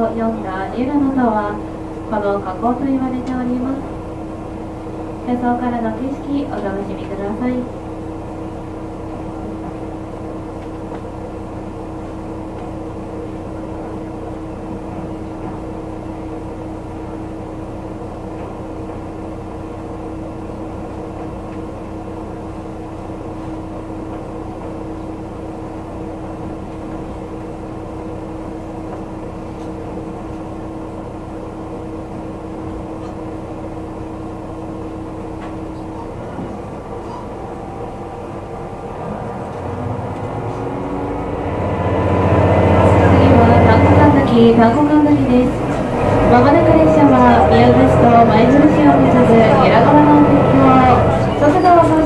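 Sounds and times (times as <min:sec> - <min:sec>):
constant low hum: 0:00.0 - 0:52.0
railcar wheels and engine rumble: 0:00.0 - 0:52.0.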